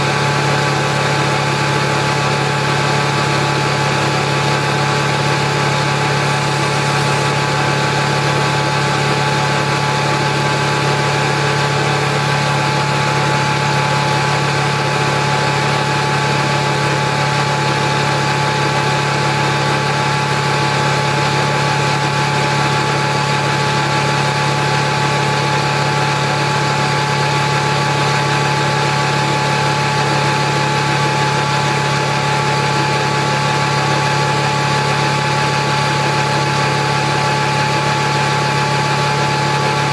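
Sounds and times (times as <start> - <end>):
air compressor humming and whining: 0.0 - 39.9.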